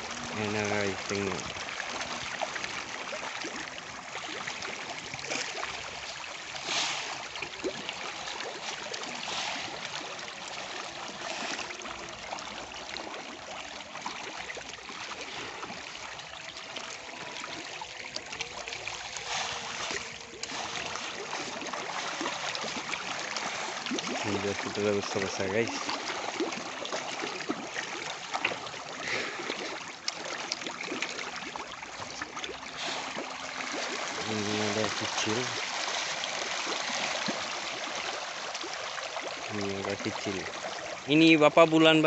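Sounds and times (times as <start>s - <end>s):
fish splashing at water surface: 0.0s - 41.8s.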